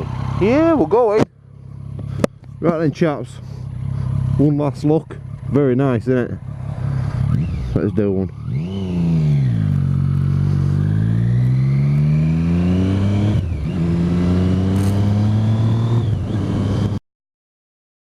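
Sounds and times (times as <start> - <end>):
motorcycle accelerating: 0.0 - 17.0.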